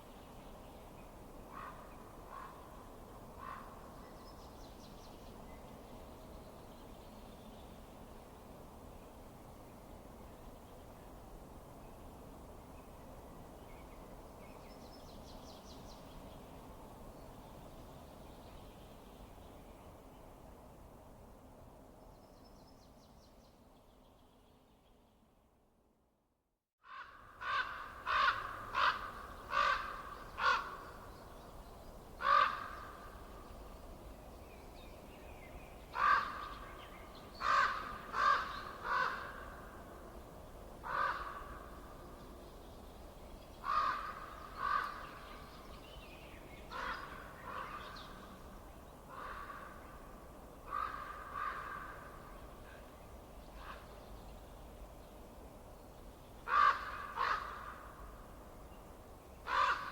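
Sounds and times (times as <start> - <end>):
faint background hiss: 0.0 - 26.4, 27.1 - 59.9.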